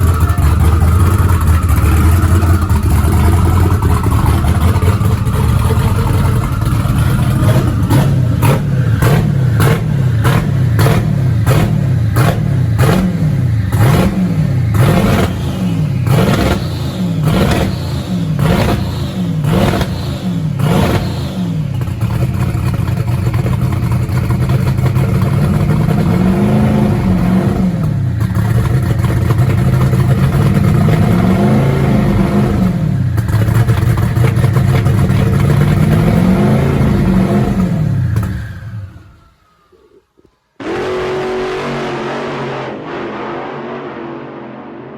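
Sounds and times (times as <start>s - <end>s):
car engine revving and idling: 0.0s - 39.9s, 40.6s - 44.9s.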